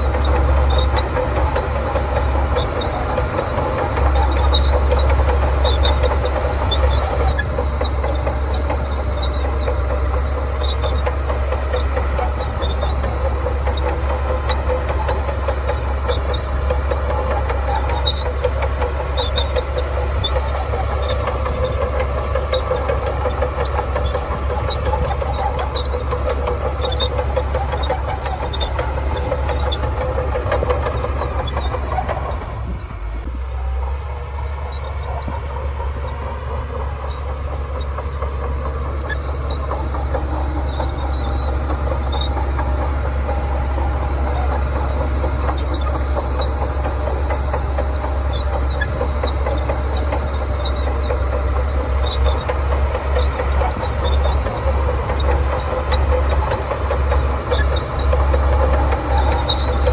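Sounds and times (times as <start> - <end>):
bulldozer diesel engine rumbling: 0.0 - 59.9.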